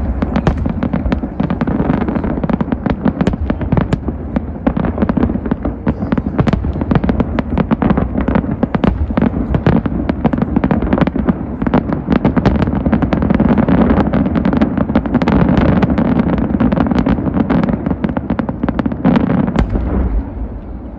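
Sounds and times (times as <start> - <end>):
fireworks cracking and banging: 0.0 - 20.9.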